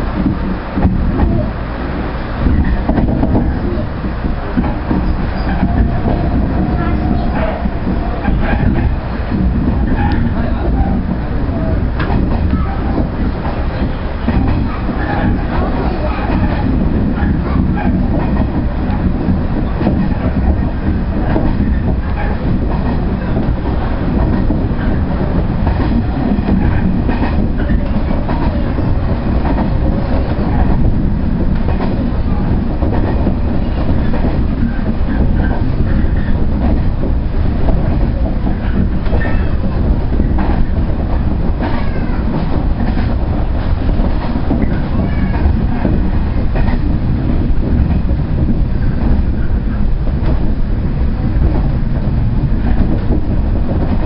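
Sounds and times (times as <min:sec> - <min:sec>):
train rumbling: 0:00.0 - 0:54.0
wheels clacking over rail joints: 0:00.0 - 0:54.0.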